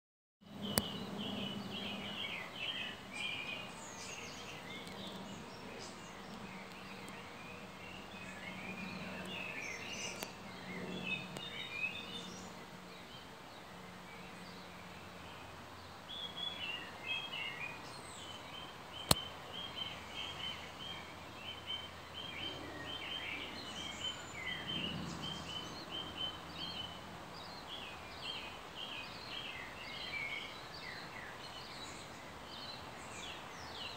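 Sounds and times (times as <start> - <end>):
birds chirping: 0.5 - 33.9.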